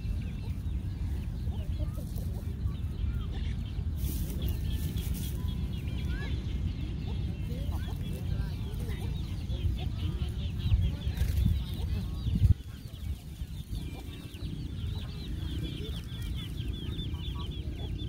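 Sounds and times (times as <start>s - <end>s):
birds chirping rapidly: 0.0s - 18.0s.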